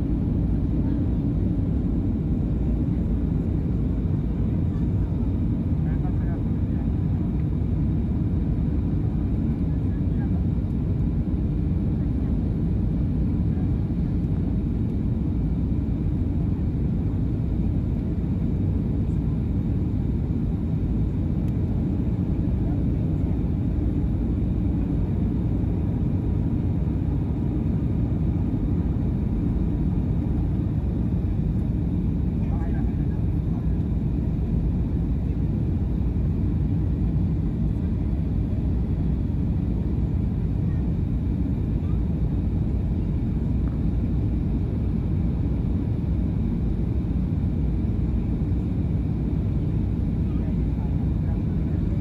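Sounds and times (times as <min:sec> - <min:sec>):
jet airliner cabin rumble: 0:00.0 - 0:52.0.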